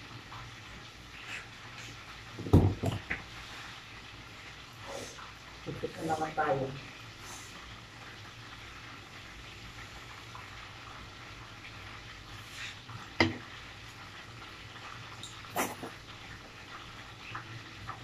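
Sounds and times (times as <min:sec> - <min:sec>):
chicken frying in a pan: 0:00.0 - 0:18.0.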